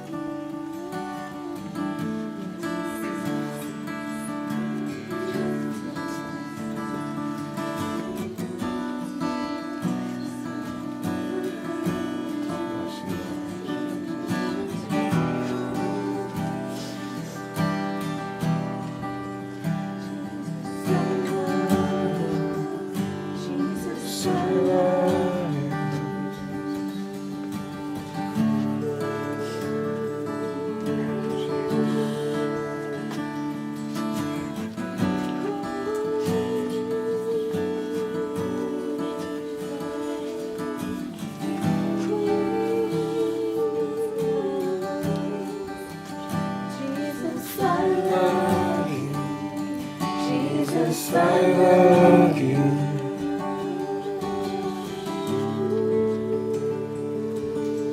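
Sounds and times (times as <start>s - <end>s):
acoustic guitar strumming: 0.0s - 57.9s
slow worship music: 0.0s - 57.9s.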